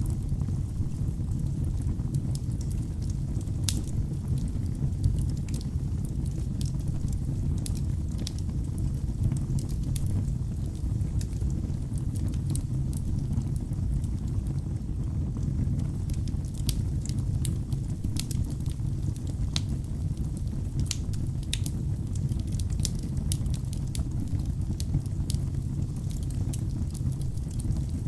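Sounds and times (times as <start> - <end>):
fire crackles and pops: 0.0 - 28.0
low rumble of flames: 0.0 - 28.0.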